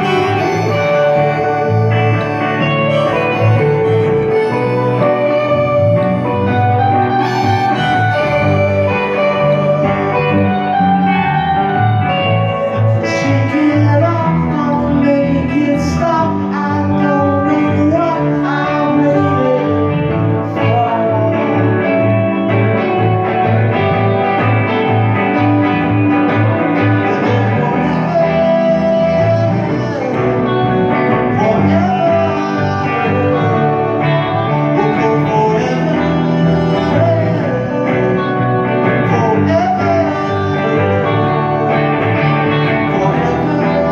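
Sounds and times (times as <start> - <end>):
man singing: 0.0 - 23.8, 25.2 - 43.9
electric guitars playing: 0.0 - 43.9.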